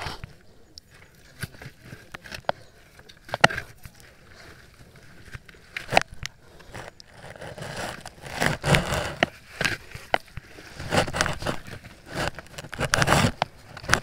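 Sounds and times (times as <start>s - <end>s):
stones scraping and knocking: 0.0s - 14.0s
wooden stick poking rocks: 0.0s - 14.0s.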